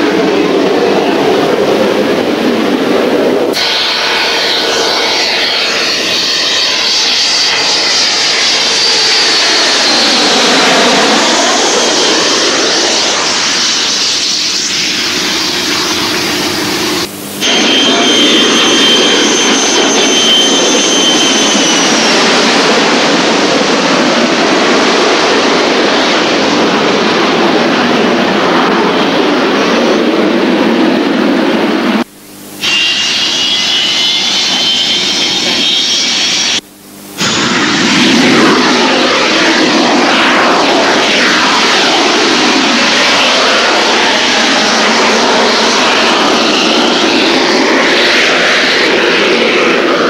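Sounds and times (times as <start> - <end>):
jet engine roar: 0.0 - 50.0
jet whine falling in pitch: 0.0 - 50.0.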